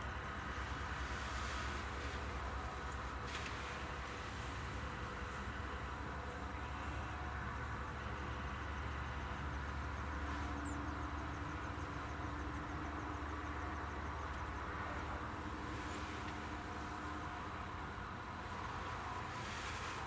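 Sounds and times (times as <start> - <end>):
distant engine hum: 0.0 - 20.0.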